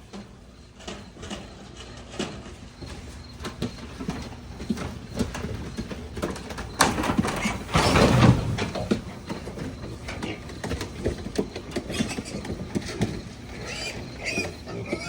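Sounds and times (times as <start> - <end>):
hooves knocking and clattering: 0.0 - 15.0.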